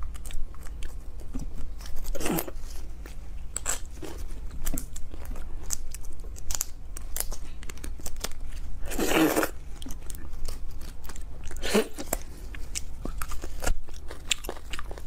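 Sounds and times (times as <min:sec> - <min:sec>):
chewing and mouth smacks: 0:00.0 - 0:15.0.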